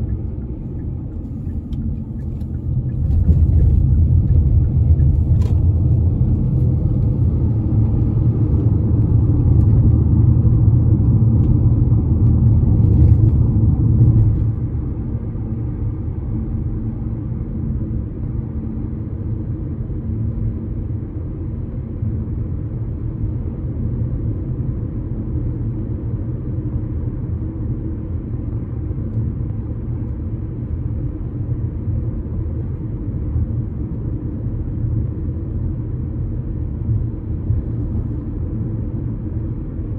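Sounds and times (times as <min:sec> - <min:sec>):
traffic rumble on bridge: 0:00.0 - 0:39.9.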